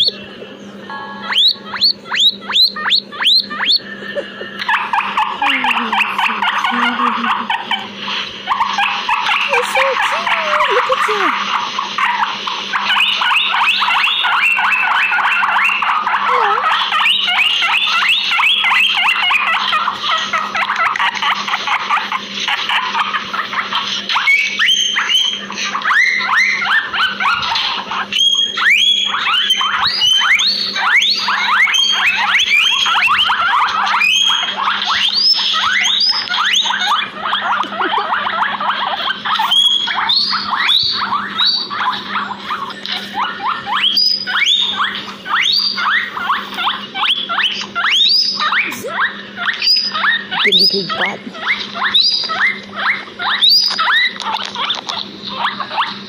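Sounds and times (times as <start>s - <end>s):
guinea pigs wheeking: 0.0s - 56.0s.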